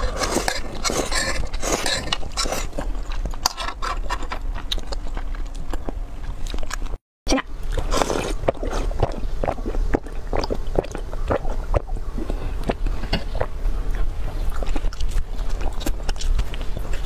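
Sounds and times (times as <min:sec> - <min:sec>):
chewing crisp pastry: 0:00.0 - 0:07.0, 0:07.6 - 0:17.0.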